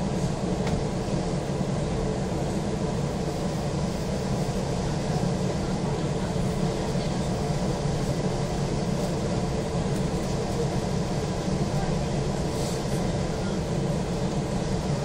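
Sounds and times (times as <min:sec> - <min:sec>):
rumble inside train car: 0:00.0 - 0:15.0
train running past: 0:00.0 - 0:15.0.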